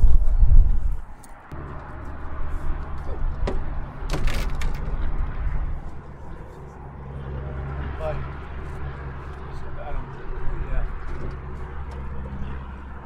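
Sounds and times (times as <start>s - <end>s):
vehicle engine running: 0.5s - 13.0s.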